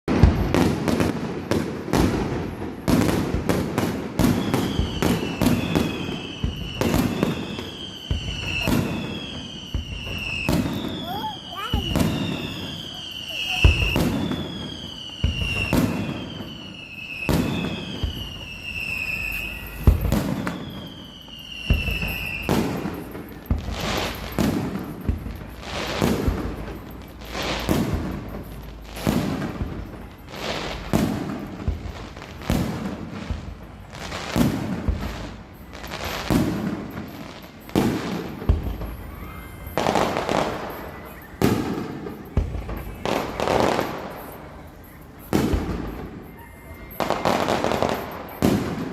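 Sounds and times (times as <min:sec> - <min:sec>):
whistling firecrackers: 0:00.0 - 0:48.9
firework bangs with echo: 0:00.1 - 0:48.9.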